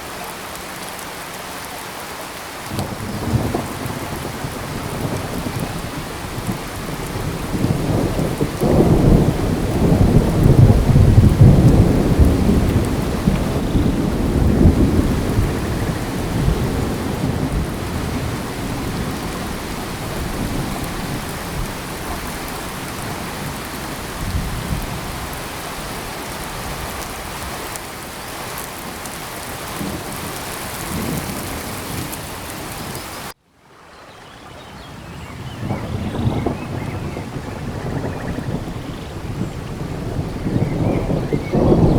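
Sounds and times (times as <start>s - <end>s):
steady rain falling: 0.0s - 41.9s
low rumble of thunder: 2.7s - 27.6s, 28.9s - 33.0s, 35.0s - 41.9s.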